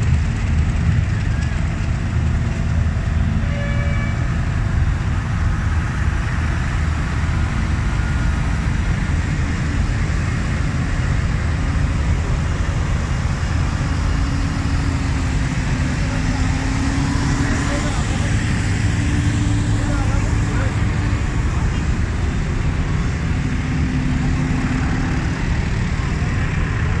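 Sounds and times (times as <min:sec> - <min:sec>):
tractor engines rumbling: 0:00.0 - 0:27.0.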